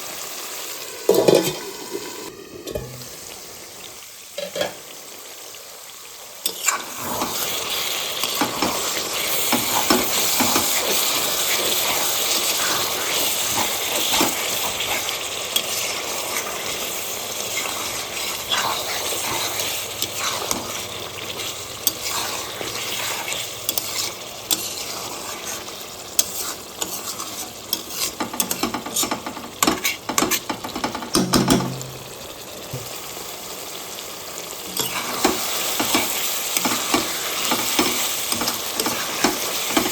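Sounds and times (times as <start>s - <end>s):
food sizzling in a pan: 0.0s - 39.9s
spatula scraping a pan: 1.1s - 3.1s, 6.5s - 32.0s, 34.7s - 39.9s.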